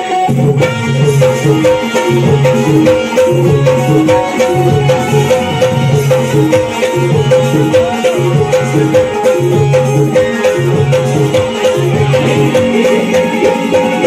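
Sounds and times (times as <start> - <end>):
folk music: 0.0 - 14.0
hand drums beating: 0.0 - 14.0.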